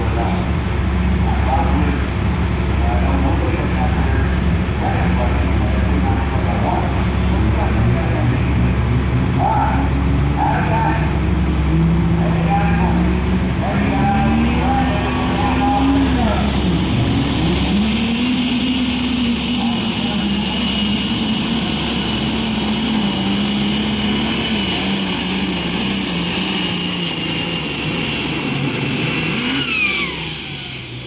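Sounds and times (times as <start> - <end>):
tractor engine running flat out: 0.0 - 31.0.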